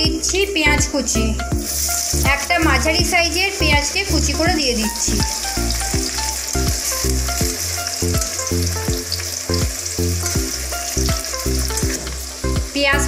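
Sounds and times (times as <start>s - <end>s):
music with plucked notes and bass: 0.0s - 13.0s
onions sizzling in oil: 0.0s - 13.0s.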